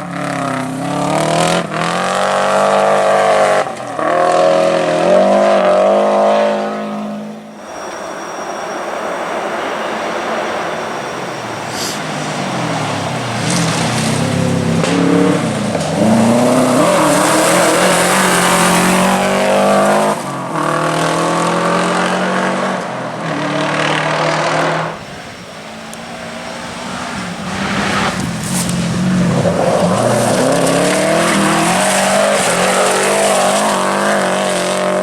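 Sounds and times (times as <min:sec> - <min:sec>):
car engine revving hard: 0:00.0 - 0:07.5, 0:11.3 - 0:35.0.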